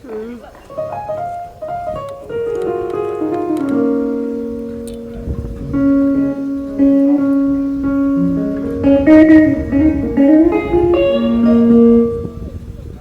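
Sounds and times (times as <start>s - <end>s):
instrumental guitar music: 0.6s - 13.0s.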